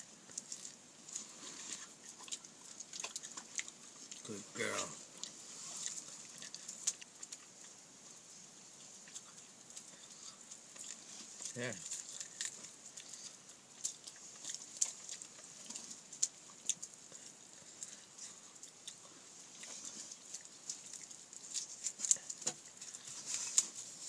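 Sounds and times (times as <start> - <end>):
dog chewing and licking: 0.0 - 24.0.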